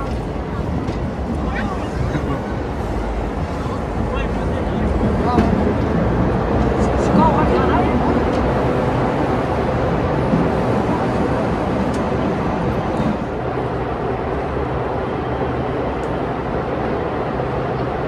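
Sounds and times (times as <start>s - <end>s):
train rushing through tunnel: 0.0s - 18.0s.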